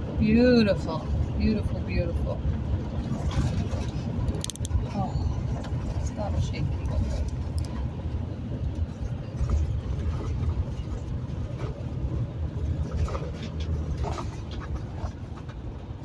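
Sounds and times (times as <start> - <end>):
vehicle road rumble from inside: 0.0 - 16.0.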